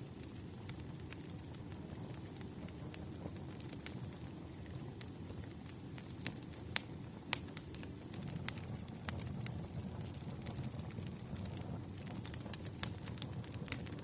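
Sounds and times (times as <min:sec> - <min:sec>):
firewood fire crackling: 0:00.0 - 0:14.0.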